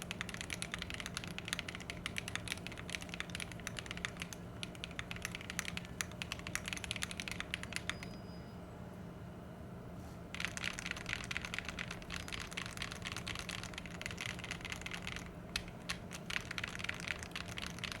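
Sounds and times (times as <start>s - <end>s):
fast mechanical keyboard typing: 0.0s - 8.1s, 10.3s - 18.0s.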